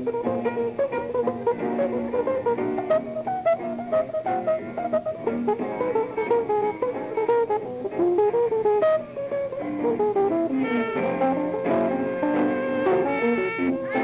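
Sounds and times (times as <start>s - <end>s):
electric guitar single-note melody: 0.0s - 14.0s
sustained guitar chords: 0.0s - 14.0s.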